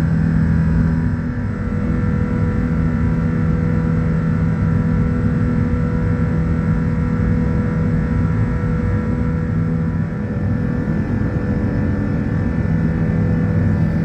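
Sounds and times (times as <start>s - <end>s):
rumble of engines and airflow: 0.0s - 14.0s.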